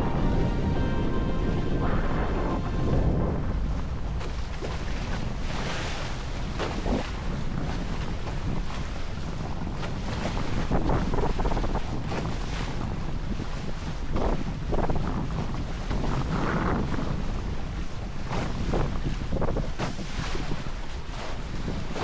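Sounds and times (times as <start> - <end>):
water splashing past hull: 0.0 - 22.0
wind buffeting microphone: 0.0 - 22.0.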